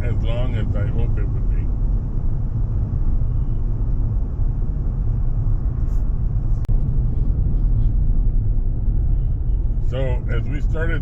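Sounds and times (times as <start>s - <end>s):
truck driving rumble: 0.0s - 11.0s.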